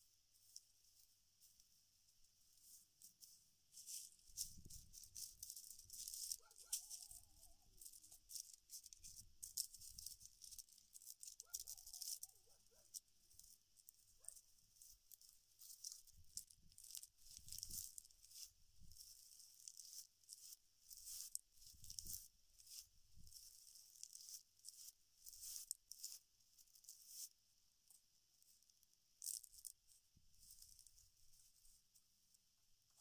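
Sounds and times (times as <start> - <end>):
palm fibre sheets rustling: 0.3 - 27.4.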